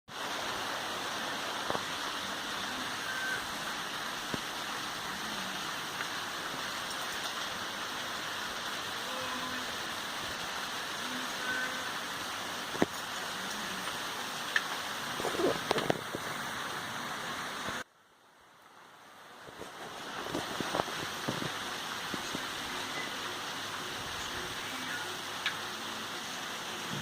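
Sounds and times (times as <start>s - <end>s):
heavy rain falling: 0.1s - 27.0s.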